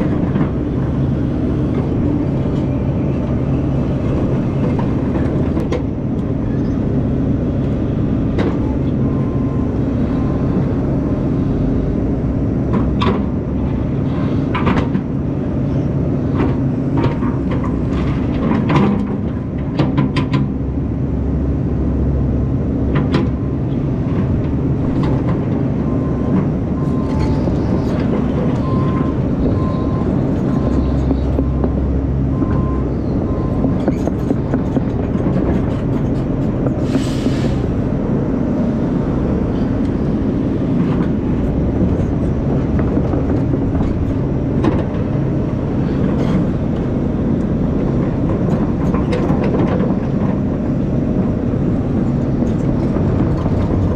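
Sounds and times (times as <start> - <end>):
earthmover diesel engine running: 0.0 - 53.9.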